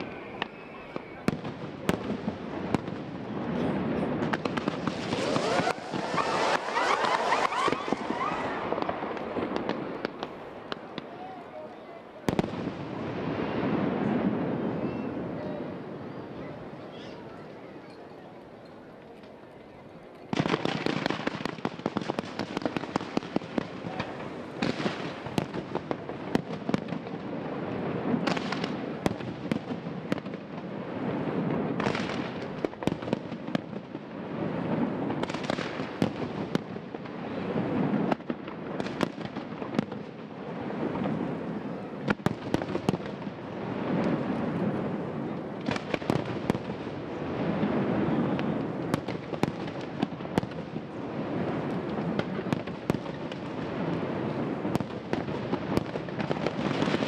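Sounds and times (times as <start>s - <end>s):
firework bangs: 0.0s - 11.3s, 12.2s - 16.1s, 20.3s - 57.0s
firework crackling: 0.0s - 17.3s, 20.3s - 57.0s.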